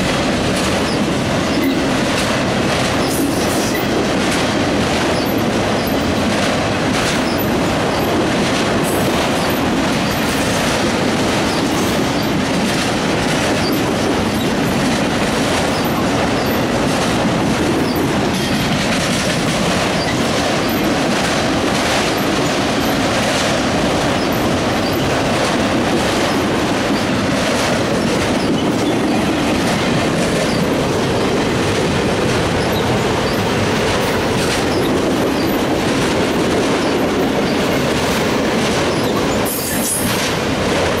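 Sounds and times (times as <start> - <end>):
freight train wheels rumbling: 0.0 - 41.0
wheels clacking over rail joints: 0.0 - 41.0.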